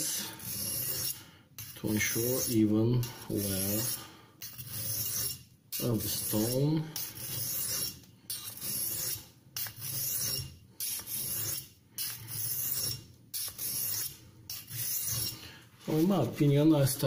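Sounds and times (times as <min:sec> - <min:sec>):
knife scraping on sharpening stone: 0:00.0 - 0:16.4.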